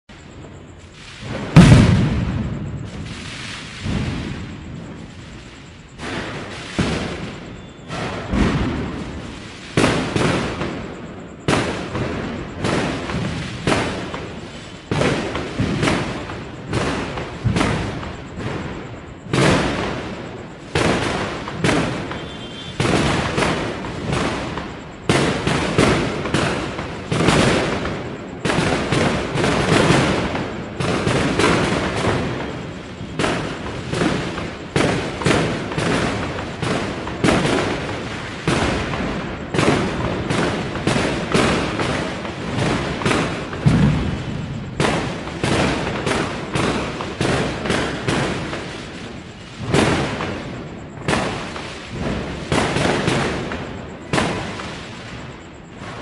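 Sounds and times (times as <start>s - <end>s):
firecracker bangs echoing: 0.1s - 56.0s.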